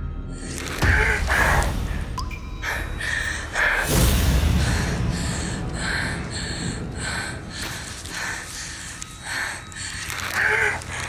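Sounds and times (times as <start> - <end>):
person gasping and breathing hard: 0.5 - 11.0.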